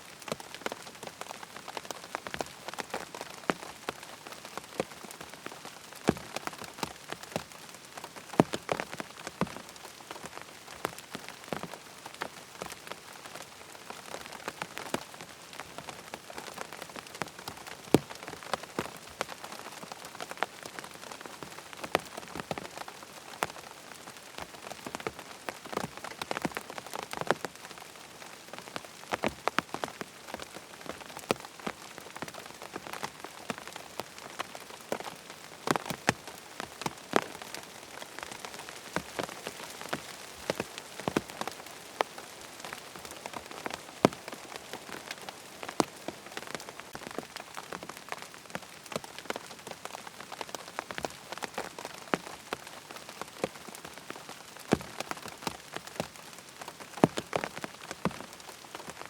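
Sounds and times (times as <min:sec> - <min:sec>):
rain hissing on a tent: 0:00.0 - 0:59.0
raindrops tapping on a tent: 0:00.0 - 0:59.0.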